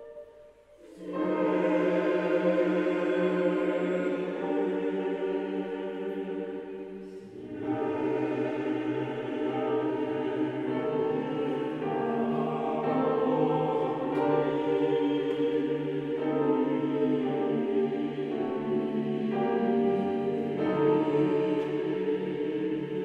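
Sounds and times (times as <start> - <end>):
mixed choir singing: 0.0 - 23.0.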